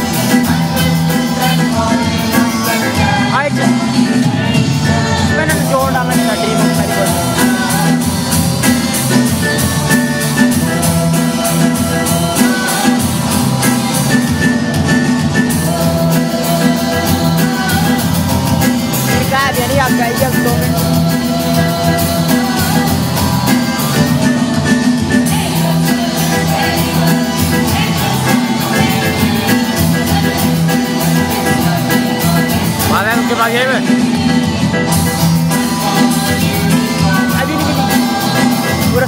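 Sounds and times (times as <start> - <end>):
accompaniment with steady beat: 0.0 - 39.0
group of young singers: 0.0 - 39.0.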